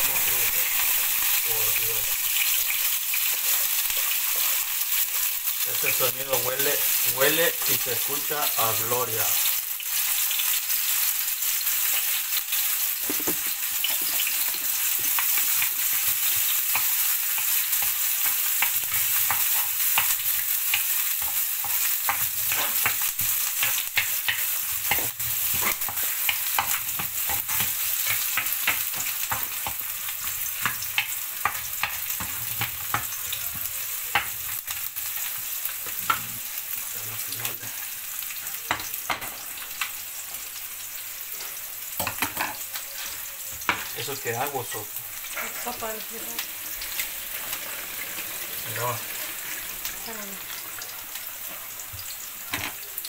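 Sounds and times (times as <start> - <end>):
vegetables sizzling in oil: 0.0 - 53.0.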